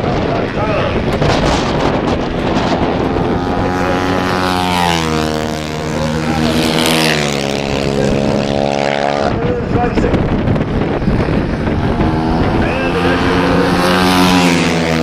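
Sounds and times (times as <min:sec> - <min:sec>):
racing motorcycles at speed: 0:00.0 - 0:15.0.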